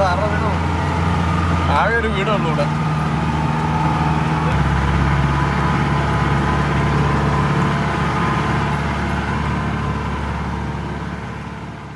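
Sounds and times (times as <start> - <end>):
car engine running while driving: 0.0 - 11.9.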